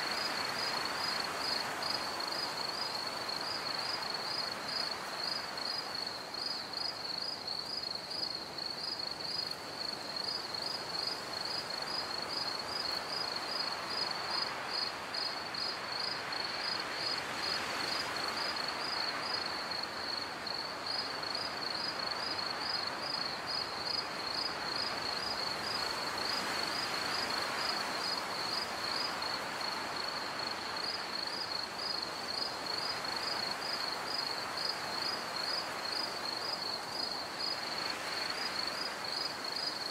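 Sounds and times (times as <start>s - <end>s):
insects chirping trill: 0.2s - 39.9s.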